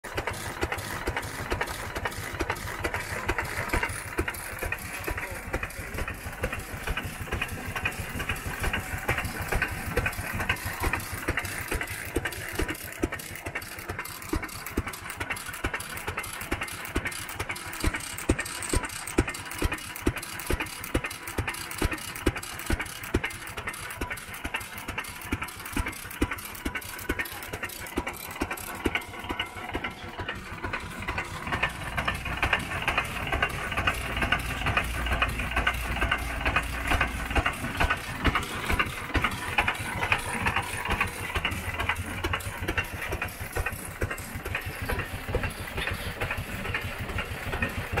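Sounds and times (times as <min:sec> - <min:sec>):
stationary engine clattering: 0:00.0 - 0:48.0.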